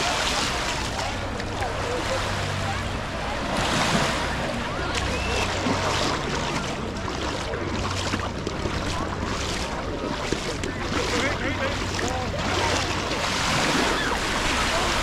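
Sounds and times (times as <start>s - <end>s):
surf washing onto shore: 0.0s - 15.0s.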